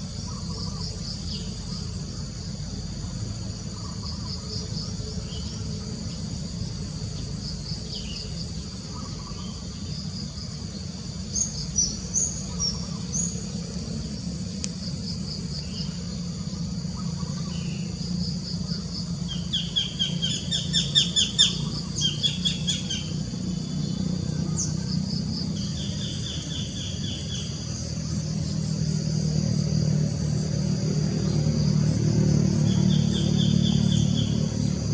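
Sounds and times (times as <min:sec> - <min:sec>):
birds calling and trilling: 0:00.0 - 0:34.9
insects buzzing: 0:00.0 - 0:34.9.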